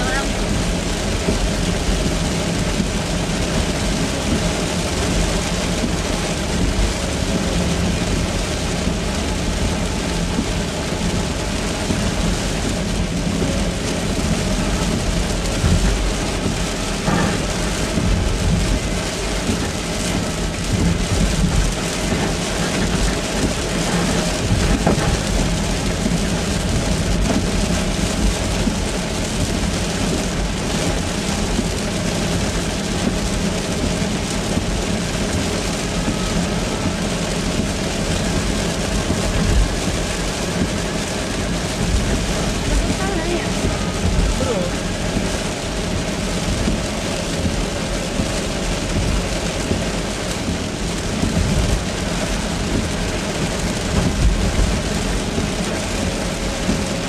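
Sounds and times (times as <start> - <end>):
heavy rain on car roof: 0.0 - 57.0
tyre and road noise: 0.0 - 57.0.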